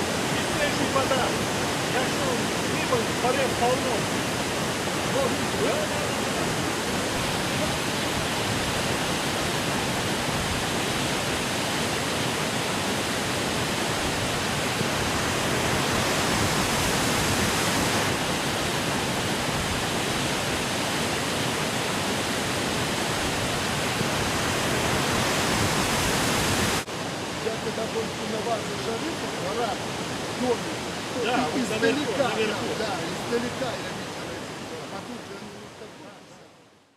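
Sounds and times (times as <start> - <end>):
river water rushing: 0.0 - 36.8.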